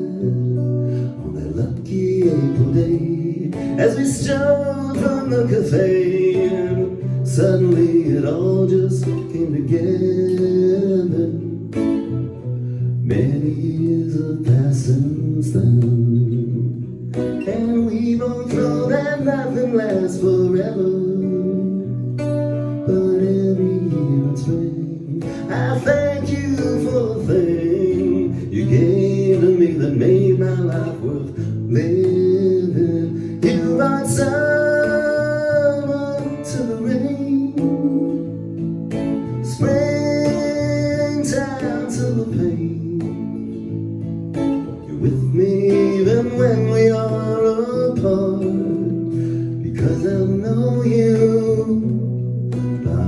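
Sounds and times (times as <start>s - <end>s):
person singing: 0.0s - 12.4s, 13.0s - 38.4s, 39.1s - 43.9s, 44.6s - 53.0s
strummed acoustic guitar: 0.0s - 53.0s.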